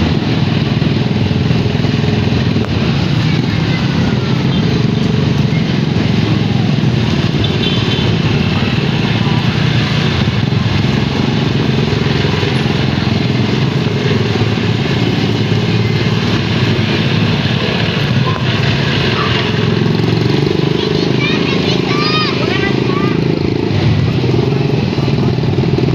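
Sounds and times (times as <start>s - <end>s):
motorcycle engine running: 0.0s - 25.9s
road noise: 0.0s - 25.9s.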